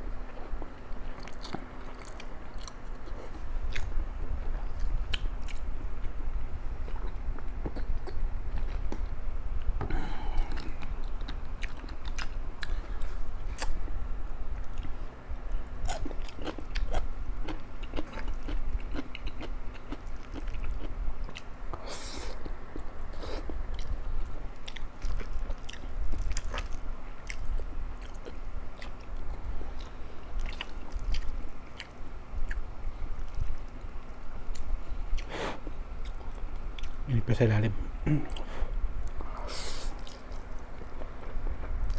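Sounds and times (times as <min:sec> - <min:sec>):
faint steady hum: 0:00.0 - 0:41.9
person chewing and crunching food: 0:00.2 - 0:06.2, 0:06.8 - 0:13.9, 0:14.5 - 0:37.0, 0:38.1 - 0:41.9.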